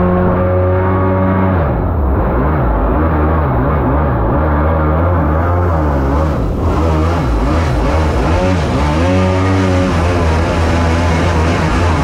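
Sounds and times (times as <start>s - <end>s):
boat engine revving: 0.0s - 12.0s.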